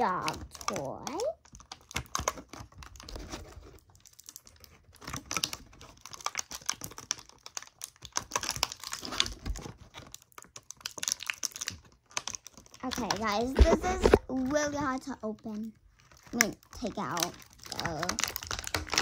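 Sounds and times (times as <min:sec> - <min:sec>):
packaging crinkling: 0:00.0 - 0:19.0
toy packaging clicks and taps: 0:00.0 - 0:19.0.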